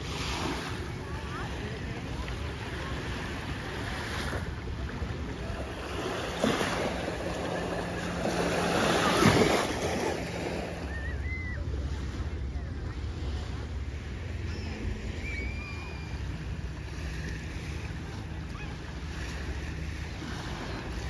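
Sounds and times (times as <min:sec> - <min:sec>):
small waves lapping: 0:00.0 - 0:21.0.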